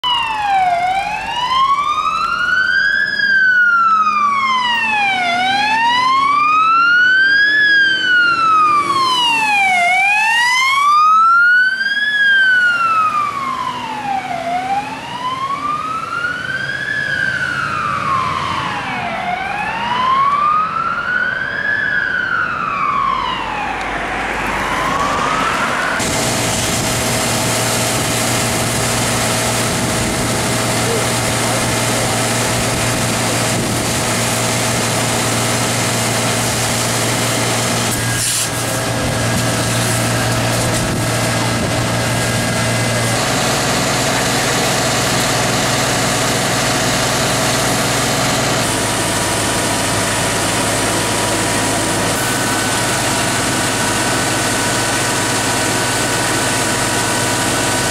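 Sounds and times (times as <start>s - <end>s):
fire engine siren wailing: 0.0s - 57.9s
truck engine and pump humming: 0.0s - 57.9s.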